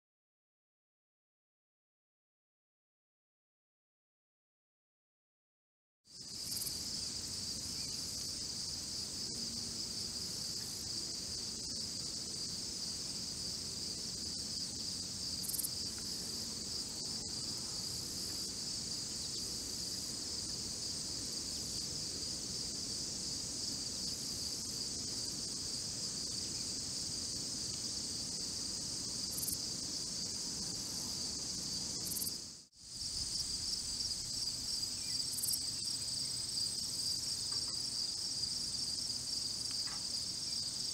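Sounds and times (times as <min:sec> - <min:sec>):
insects trilling: 0:06.1 - 0:40.9.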